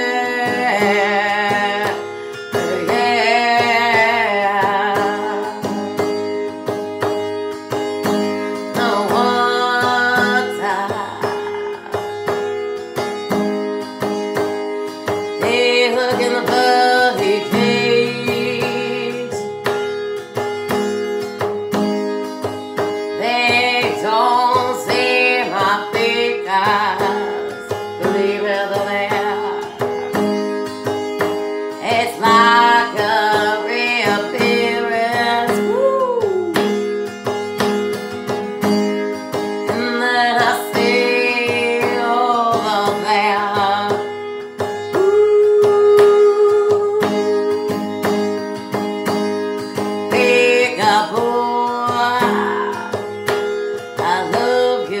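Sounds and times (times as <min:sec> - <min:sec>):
woman singing: 0:00.0 - 0:20.2, 0:20.8 - 0:37.1, 0:38.3 - 0:55.0
strummed acoustic guitar: 0:00.0 - 0:55.0.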